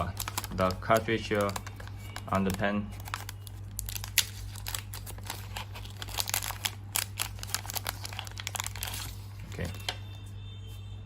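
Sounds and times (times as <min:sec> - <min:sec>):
low electrical hum: 0:00.0 - 0:10.7.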